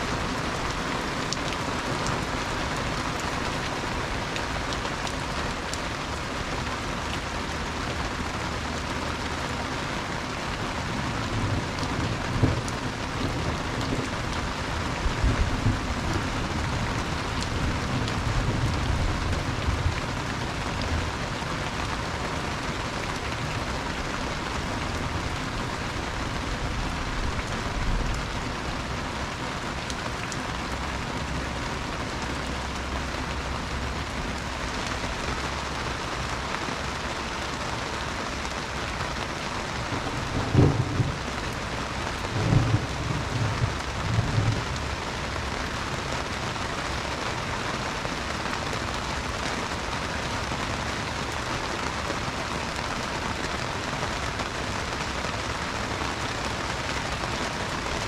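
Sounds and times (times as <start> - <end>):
heavy rain splashing: 0.0 - 58.0.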